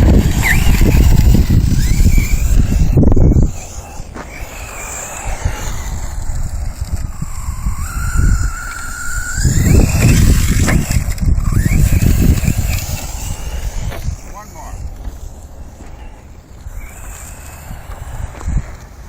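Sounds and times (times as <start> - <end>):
toy truck motors whining: 0.0 - 19.0.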